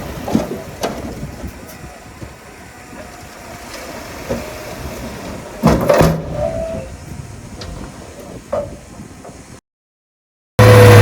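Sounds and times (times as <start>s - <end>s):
heavy machinery rumbling: 0.0s - 9.6s.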